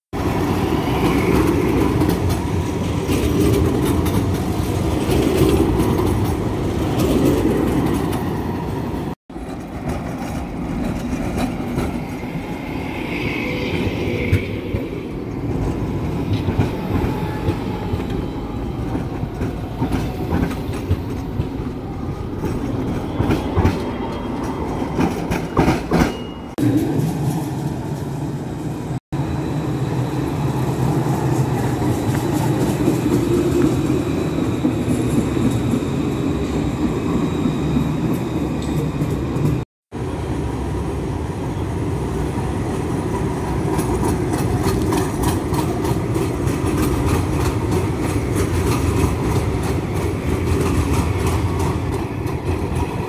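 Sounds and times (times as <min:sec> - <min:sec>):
tram wheels rumbling on rails: 0:00.1 - 0:53.0.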